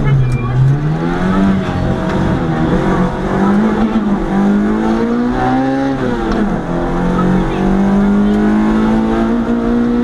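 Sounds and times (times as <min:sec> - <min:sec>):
race car engine revving: 0:00.0 - 0:10.0.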